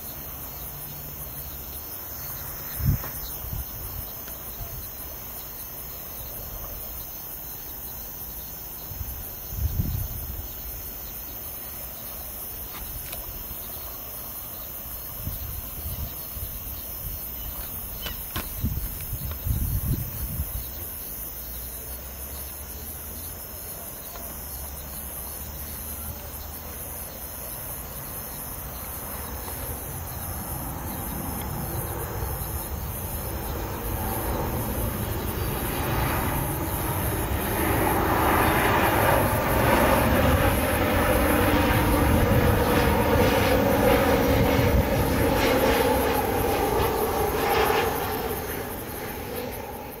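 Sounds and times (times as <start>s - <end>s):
jet airliner engines: 0.0s - 50.0s.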